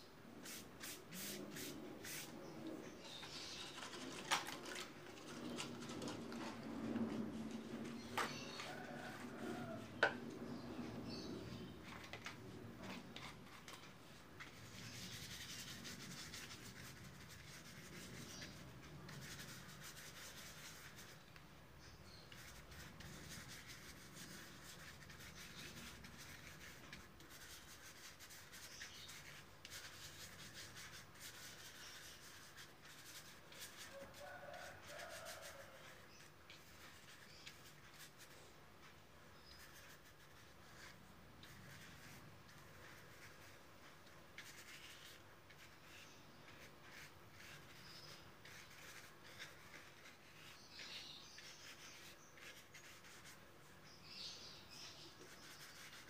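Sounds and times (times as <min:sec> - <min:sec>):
paintbrush scrubbing on paper: 0:00.4 - 0:21.2, 0:21.8 - 0:38.5, 0:39.4 - 0:56.0.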